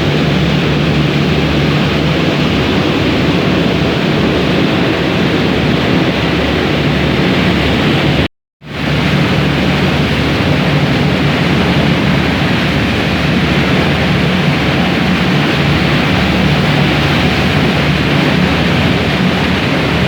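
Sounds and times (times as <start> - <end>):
ferry engine hum: 0.0 - 20.0
wind and water rushing: 0.0 - 20.0.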